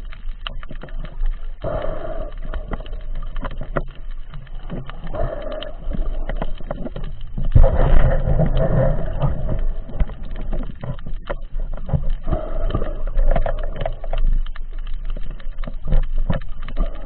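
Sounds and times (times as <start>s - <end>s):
sharp underwater clicks: 0.0s - 17.0s
underwater rush of water: 0.0s - 17.0s.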